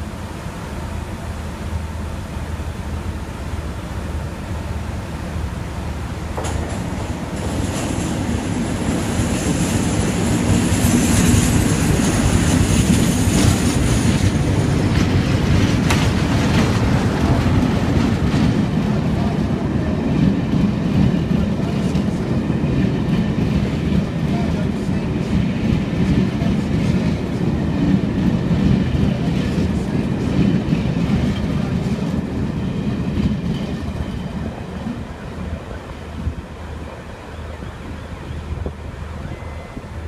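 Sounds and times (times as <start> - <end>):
wheels rumbling on rails: 0.0 - 40.0.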